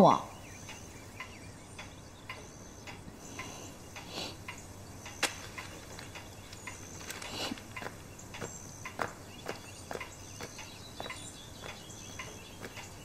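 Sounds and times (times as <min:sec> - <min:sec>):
faint light ticks: 0:00.4 - 0:13.0.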